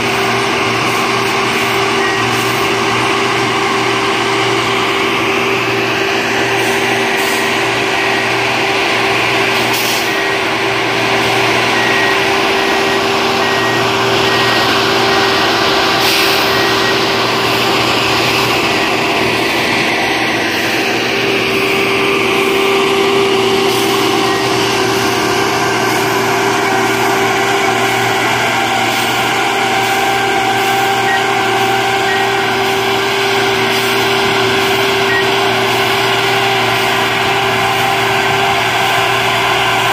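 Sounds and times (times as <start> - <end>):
diesel engines running: 0.0 - 39.9
electronic alarm beeping: 0.0 - 39.9.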